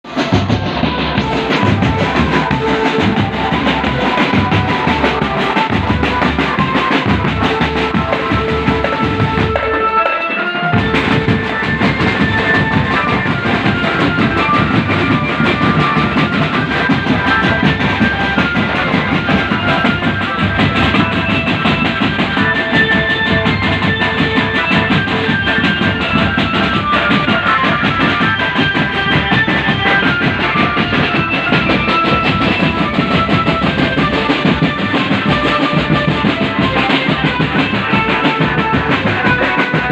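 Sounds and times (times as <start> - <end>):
drum kit: 0.0 - 39.9.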